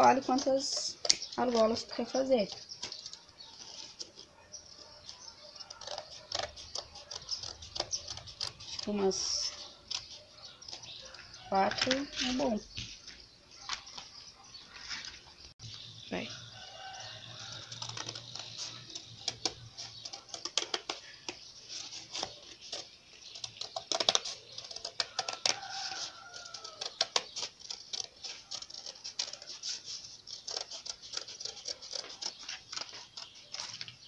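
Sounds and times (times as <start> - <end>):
scissors cutting cardboard: 0.0 - 12.6, 16.8 - 34.0.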